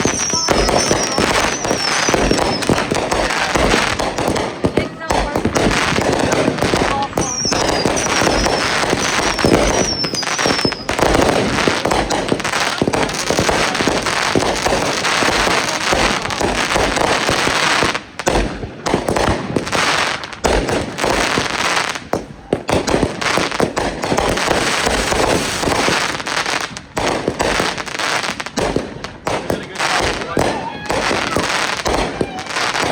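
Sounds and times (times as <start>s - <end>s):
fireworks crackling and banging: 0.0s - 32.9s
fireworks whistles falling: 0.0s - 32.9s.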